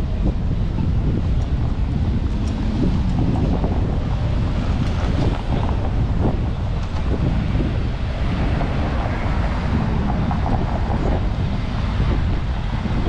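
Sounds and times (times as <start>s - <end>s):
city street traffic: 0.0s - 13.0s
wind noise on microphone: 0.0s - 13.0s.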